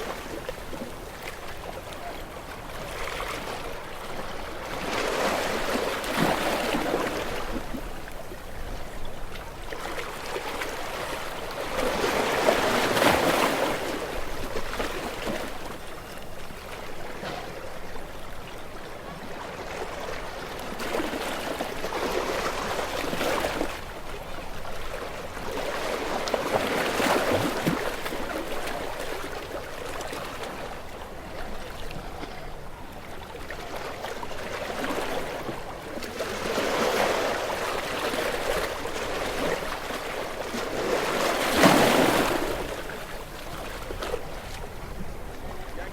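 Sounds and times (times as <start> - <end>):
small waves breaking on shore: 0.0 - 45.9.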